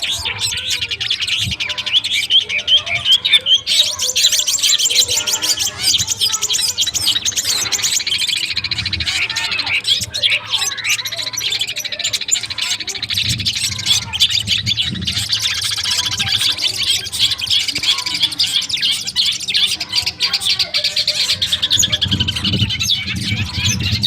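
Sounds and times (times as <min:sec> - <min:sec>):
shrike harsh chattering song: 0:00.0 - 0:24.0.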